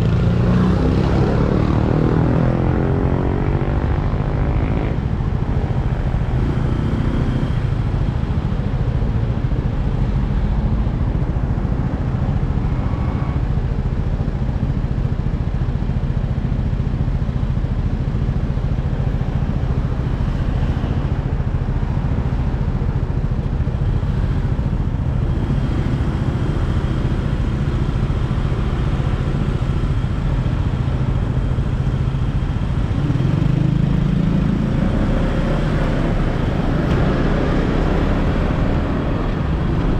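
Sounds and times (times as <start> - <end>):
wind and road noise: 0.0 - 39.9
motorbike engine running: 3.9 - 39.9.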